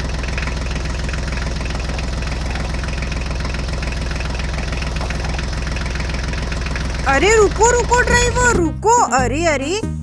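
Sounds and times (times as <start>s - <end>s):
truck engine chugging: 0.0s - 9.9s.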